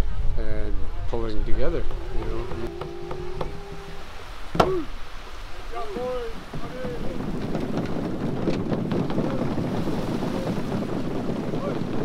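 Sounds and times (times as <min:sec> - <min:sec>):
wind on microphone: 0:00.0 - 0:12.0
small waves washing onto beach: 0:00.8 - 0:12.0.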